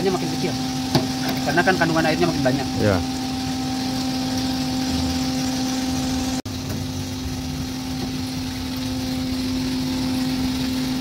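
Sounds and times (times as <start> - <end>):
coffee roaster motor humming: 0.0 - 11.0.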